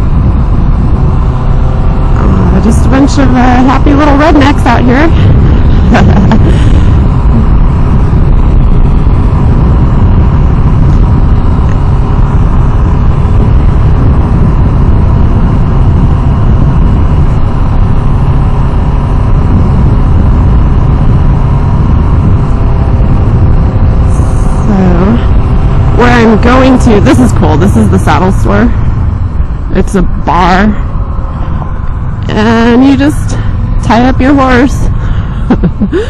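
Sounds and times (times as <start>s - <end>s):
motorcycle engine cruising: 0.0s - 36.0s
wind rushing on microphone: 0.0s - 36.0s.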